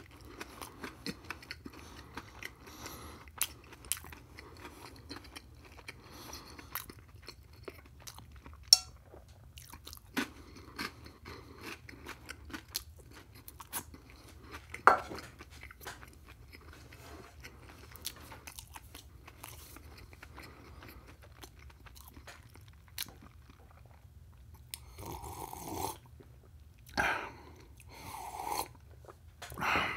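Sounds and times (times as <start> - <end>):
chewing with crunches: 0.0 - 29.9.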